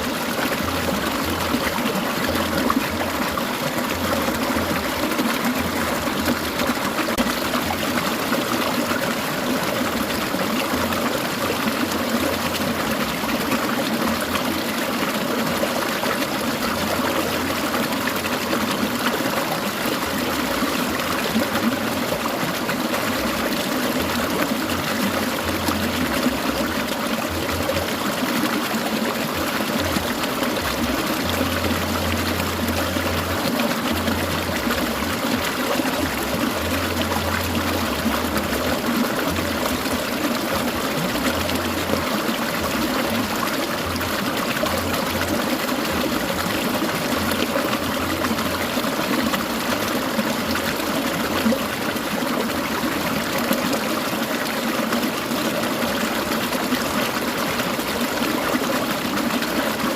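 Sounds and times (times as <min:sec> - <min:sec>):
stream babbling and trickling: 0:00.0 - 0:59.9.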